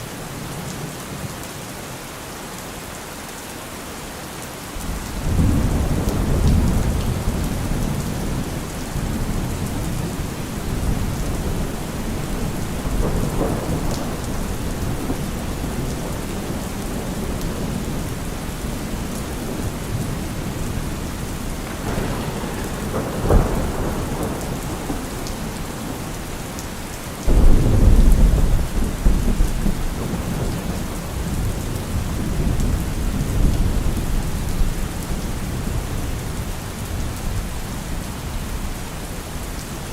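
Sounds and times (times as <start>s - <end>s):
rain falling on trees: 0.0s - 39.9s
rolling thunder: 4.8s - 38.7s.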